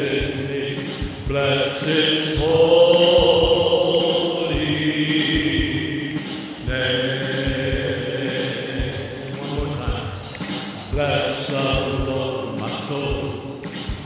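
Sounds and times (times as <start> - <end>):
cymbal ticks: 0.0 - 14.0
drum kit steady beat: 0.0 - 14.0
worship band music: 0.0 - 14.0.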